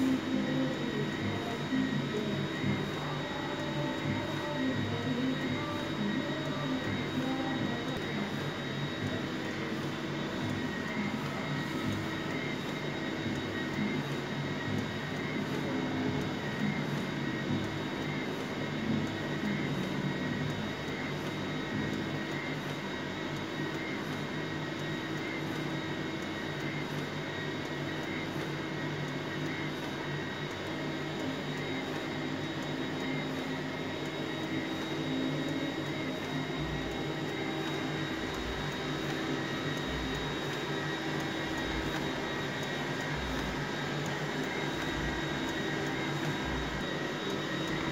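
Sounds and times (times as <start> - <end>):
printer mechanical hum: 0.0 - 47.9.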